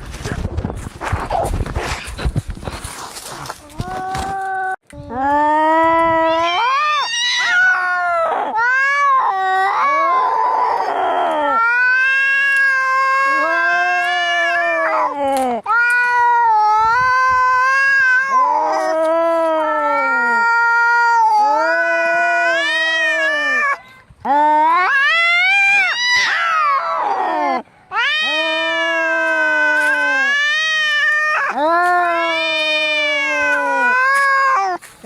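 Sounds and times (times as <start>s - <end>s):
cats yowling: 6.0s - 34.9s.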